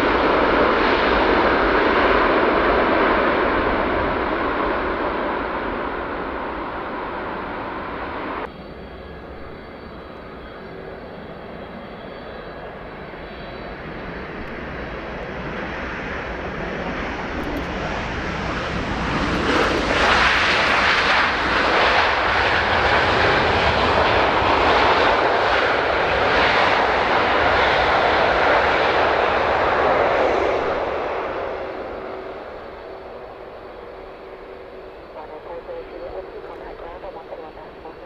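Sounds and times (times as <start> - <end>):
jet plane landing: 0.0 - 38.0.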